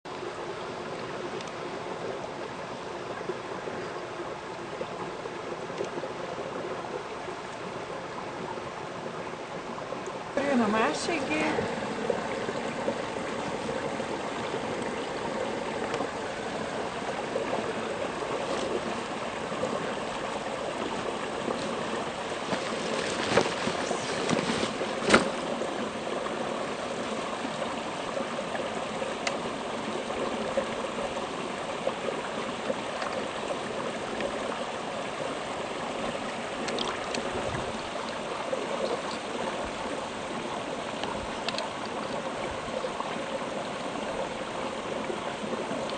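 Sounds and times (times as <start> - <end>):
brook water trickling: 0.1 - 45.9.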